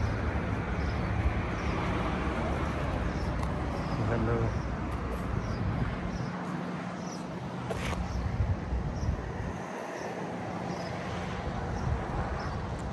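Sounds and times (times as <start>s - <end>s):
traffic hum: 0.0s - 12.9s
wind buffeting microphone: 0.0s - 12.9s.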